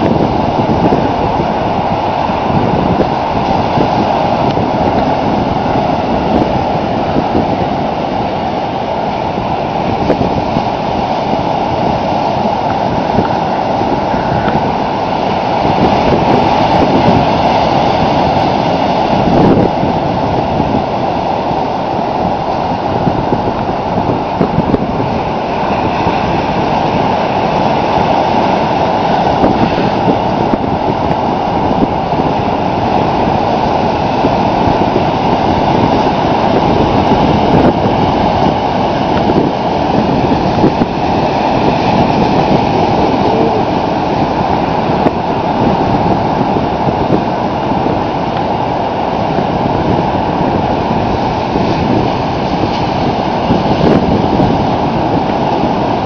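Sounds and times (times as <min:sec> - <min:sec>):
ocean surf breaking on shore: 0:00.0 - 0:56.0.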